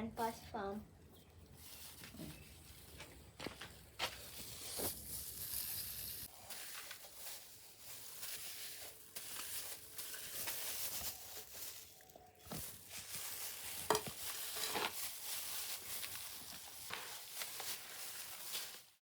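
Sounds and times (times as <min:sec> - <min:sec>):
hands kneading wet dung: 0:01.1 - 0:19.0.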